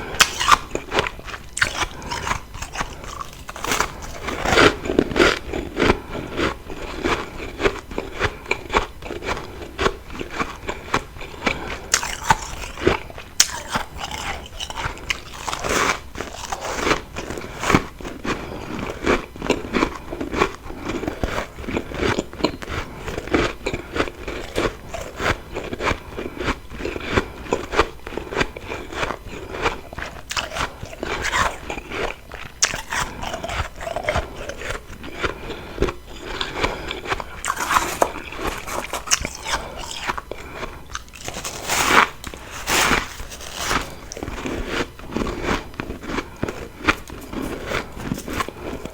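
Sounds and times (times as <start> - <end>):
crunchy chewing of frost: 0.0 - 48.9.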